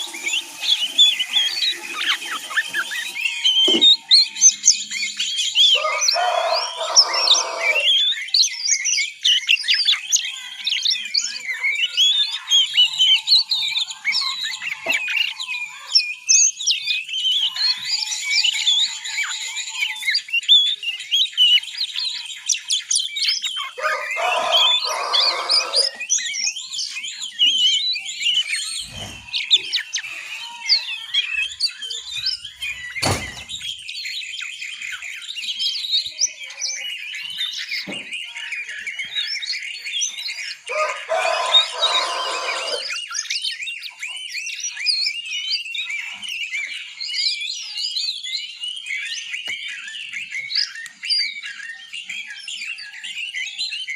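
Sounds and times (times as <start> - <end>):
young birds chirping and trilling: 0.0 - 53.9.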